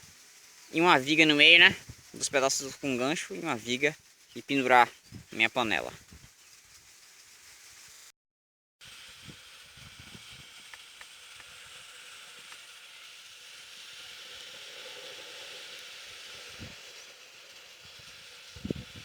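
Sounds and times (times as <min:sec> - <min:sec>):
fire crackling: 0:00.0 - 0:08.1, 0:08.8 - 0:19.0
wood fire hissing: 0:00.0 - 0:08.1, 0:08.8 - 0:19.0.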